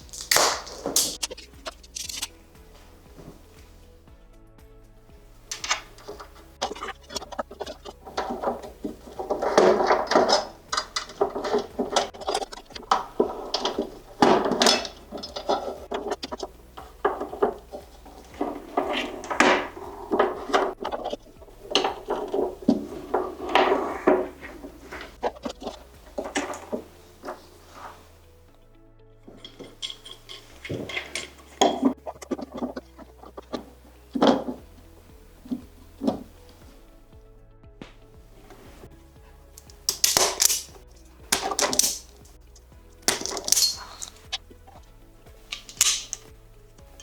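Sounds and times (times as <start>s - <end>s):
tools and parts clattering: 0.0s - 2.4s, 5.5s - 28.1s, 29.2s - 34.7s, 38.4s - 46.3s.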